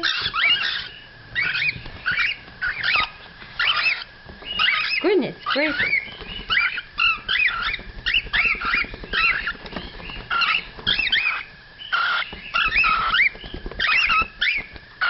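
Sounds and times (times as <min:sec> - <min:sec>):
cockatiels chirping: 0:00.0 - 0:15.0.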